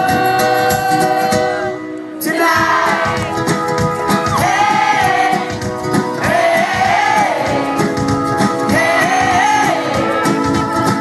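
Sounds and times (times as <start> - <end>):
pop-rock band playing: 0.0 - 11.0.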